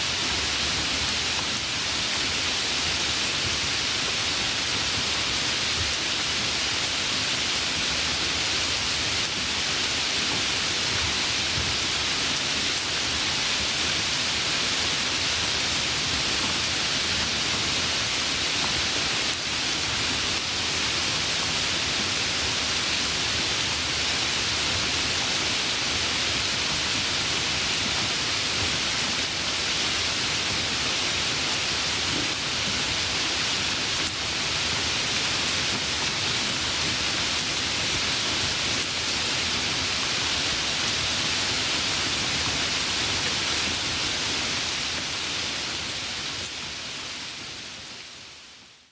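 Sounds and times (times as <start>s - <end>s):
light rain hissing: 0.0s - 48.9s.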